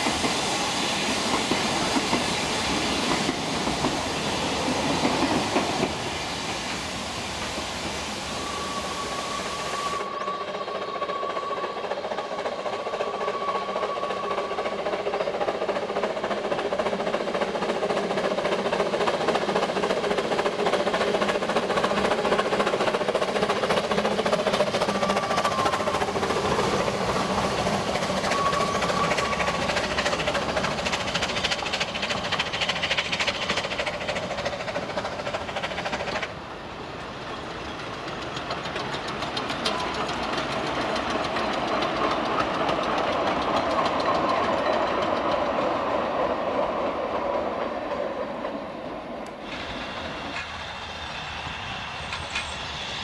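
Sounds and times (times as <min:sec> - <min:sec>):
steam locomotive chuffing: 0:00.0 - 0:53.0.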